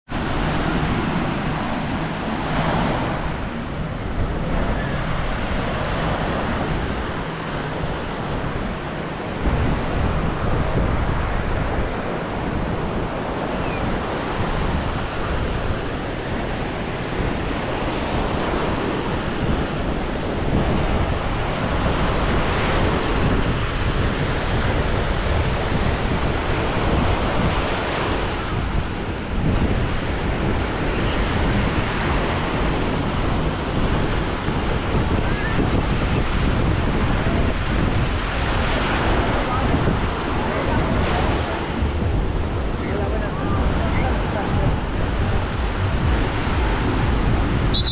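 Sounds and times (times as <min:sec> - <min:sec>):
wind buffeting microphone: 0:00.0 - 0:47.9
surf breaking on beach: 0:00.1 - 0:47.9.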